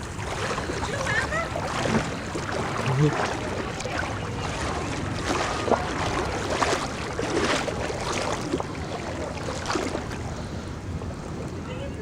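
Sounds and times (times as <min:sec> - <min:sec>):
floodwater splashing: 0:00.0 - 0:12.0
wind rumble on microphone: 0:00.0 - 0:12.0.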